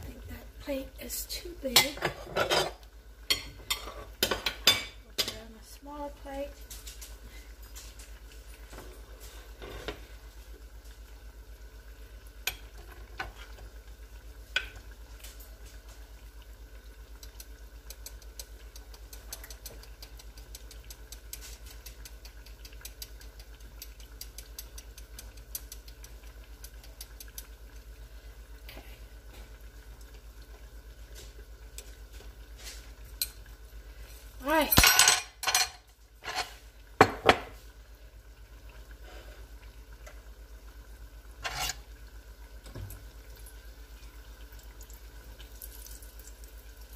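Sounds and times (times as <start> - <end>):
food sizzling in oil: 0.0 - 46.9.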